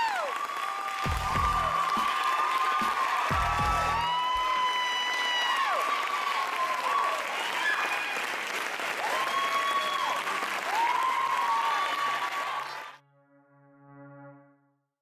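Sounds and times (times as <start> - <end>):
audience applauding: 0.0 - 13.0
high-pitched cheers: 0.0 - 13.0.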